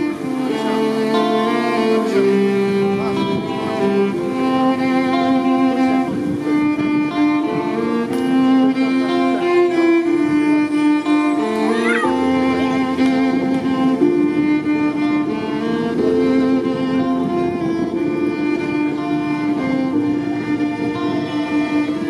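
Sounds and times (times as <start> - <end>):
violin melody: 0.0 - 22.0.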